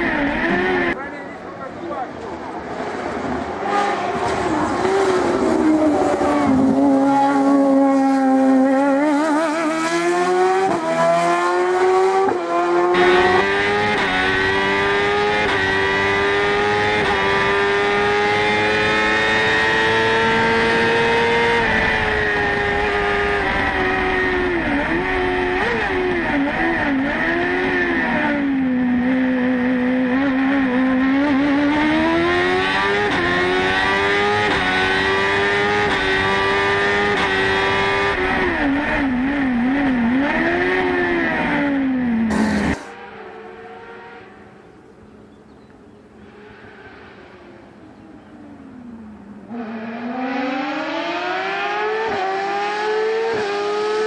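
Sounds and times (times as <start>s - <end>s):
high-revving racing engine: 0.0s - 44.8s, 45.9s - 54.0s.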